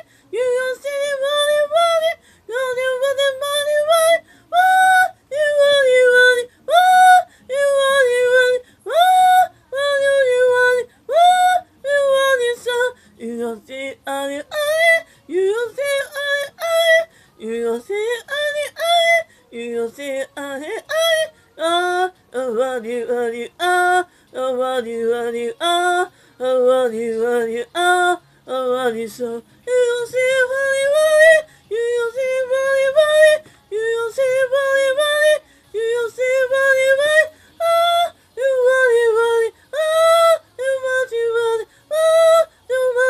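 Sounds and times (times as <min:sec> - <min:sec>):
woman singing unaccompanied: 0:00.0 - 0:43.0.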